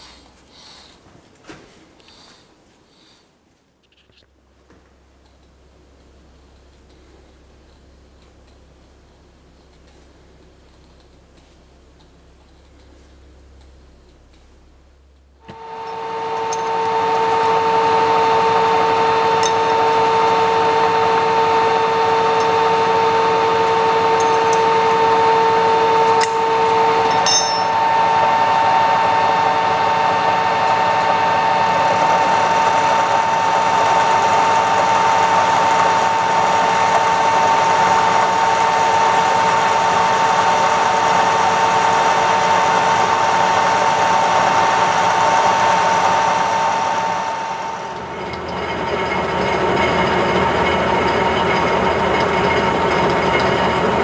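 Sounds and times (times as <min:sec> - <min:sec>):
low hum: 0:05.0 - 0:54.0.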